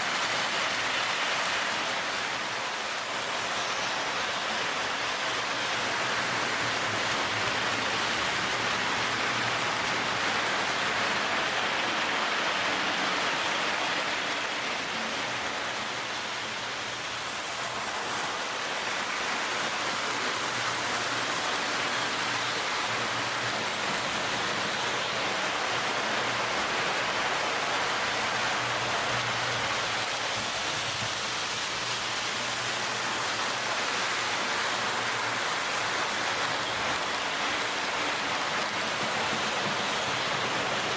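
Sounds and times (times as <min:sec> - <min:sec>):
model train rumbling on track: 0:00.0 - 0:40.9.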